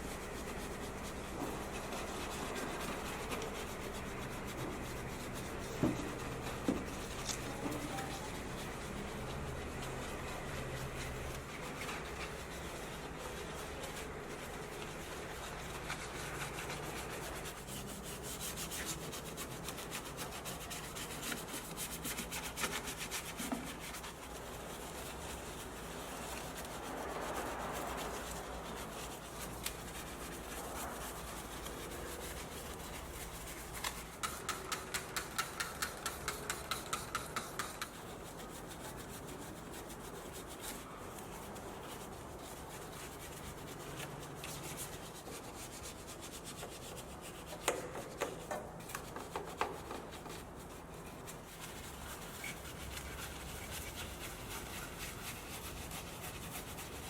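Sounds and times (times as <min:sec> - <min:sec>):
brush scrubbing a surface: 0:00.0 - 0:57.0.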